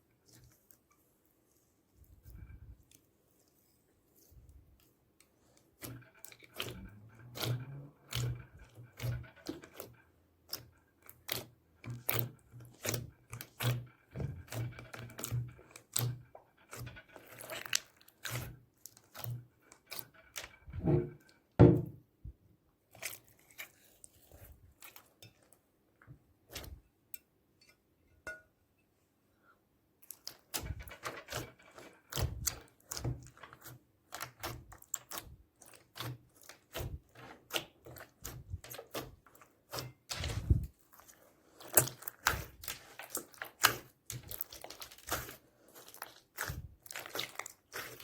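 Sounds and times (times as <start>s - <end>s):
slime squelches: 0.0s - 21.6s, 22.2s - 27.0s, 30.0s - 48.0s.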